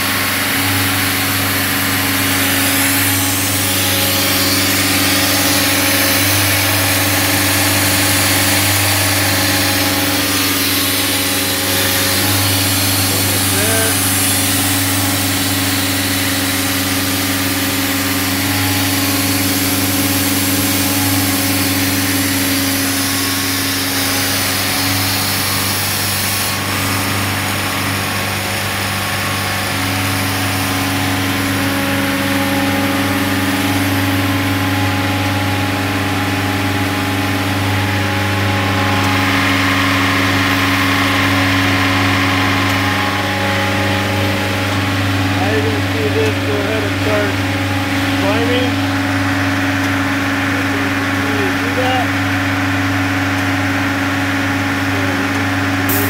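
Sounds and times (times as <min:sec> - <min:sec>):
compressor hiss: 0:00.0 - 0:52.3, 0:55.8 - 0:56.0.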